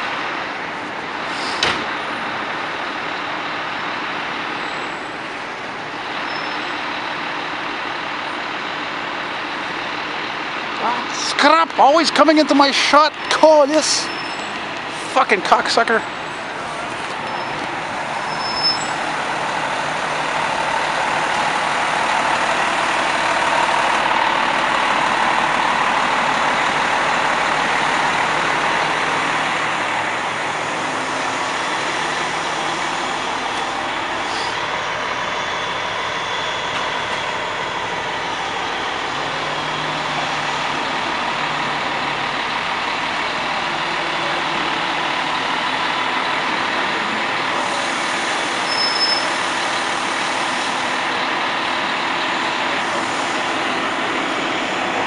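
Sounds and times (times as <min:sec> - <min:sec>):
fire truck engine idling: 0:00.0 - 0:55.0.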